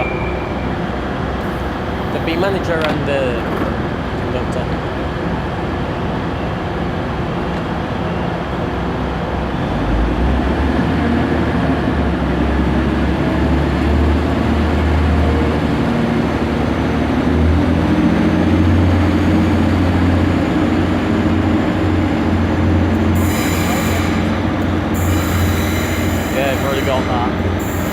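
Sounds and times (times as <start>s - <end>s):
train low drone: 0.0s - 27.9s.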